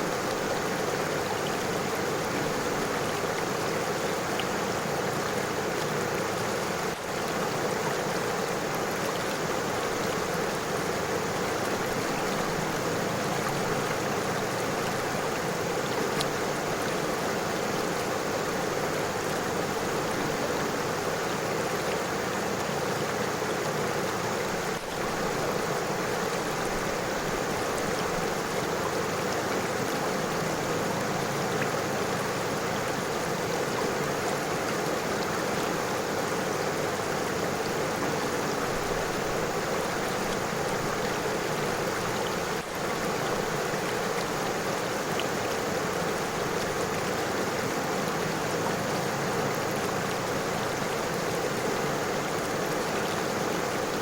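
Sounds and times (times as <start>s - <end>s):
river flowing over stones: 0.0s - 54.0s.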